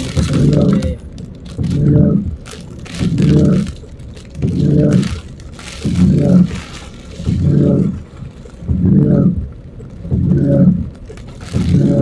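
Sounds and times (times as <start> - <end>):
wipers rubbing on wet glass: 1.6 - 9.5, 10.1 - 12.0.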